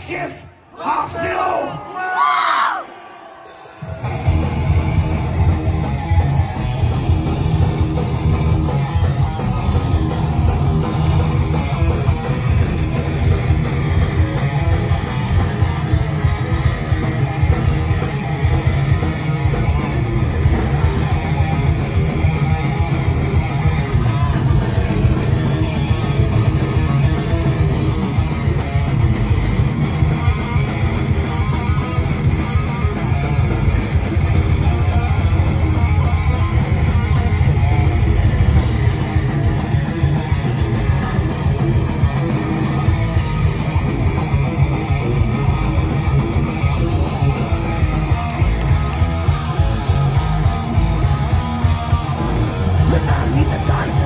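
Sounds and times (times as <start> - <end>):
drums: 0.0 - 54.0
electric guitars: 3.5 - 54.0
bass guitar: 3.8 - 54.0.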